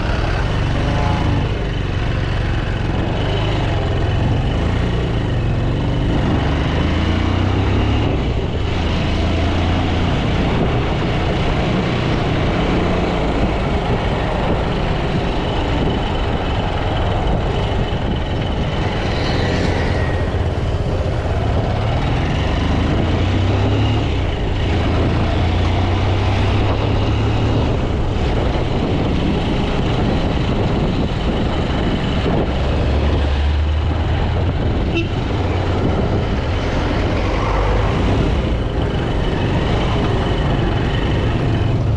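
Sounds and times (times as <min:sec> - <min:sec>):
road and traffic noise: 0:00.0 - 0:41.9.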